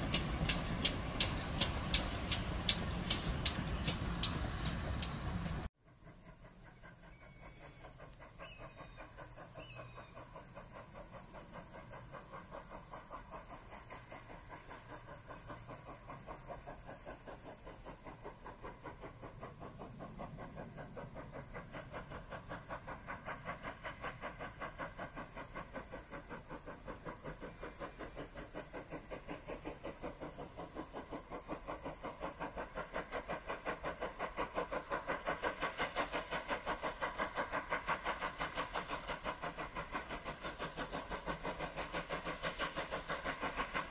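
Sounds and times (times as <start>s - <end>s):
steam locomotive chuffing: 0.0s - 43.9s.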